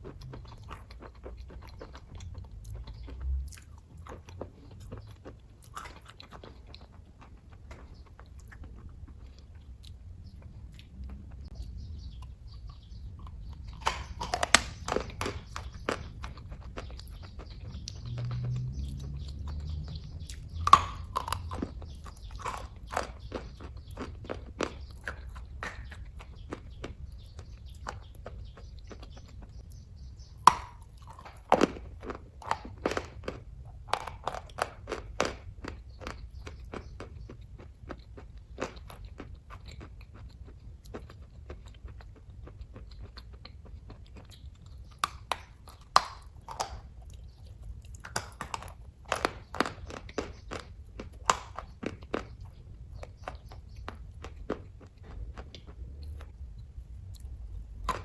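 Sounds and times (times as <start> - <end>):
low steady hum: 0.0 - 58.0
person chewing with mouth clicks: 0.0 - 58.0.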